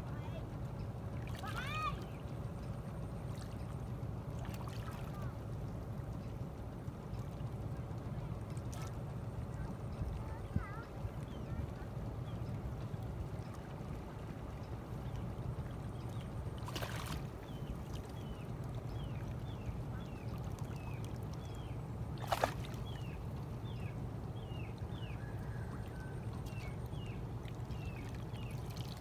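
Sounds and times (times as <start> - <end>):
wind: 0.0 - 29.0.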